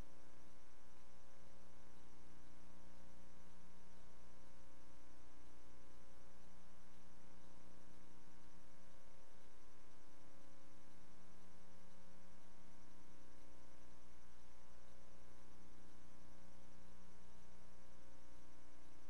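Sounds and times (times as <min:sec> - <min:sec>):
faint hiss: 0:00.0 - 0:19.0
steady electrical hum: 0:00.0 - 0:19.0.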